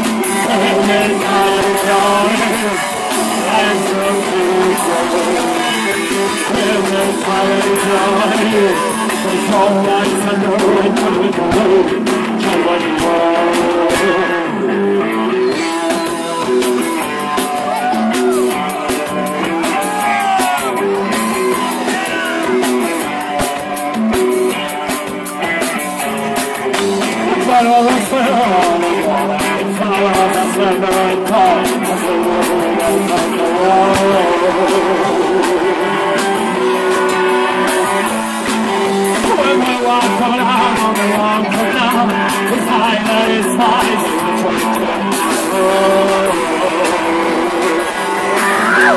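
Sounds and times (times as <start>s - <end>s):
person singing: 0.0s - 48.9s
rock band playing: 0.0s - 48.9s.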